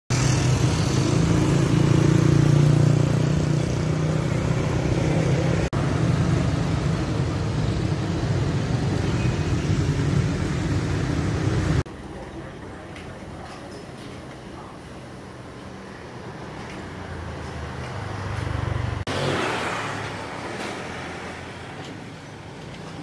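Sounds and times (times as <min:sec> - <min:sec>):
traffic rumble: 0:00.1 - 0:23.0.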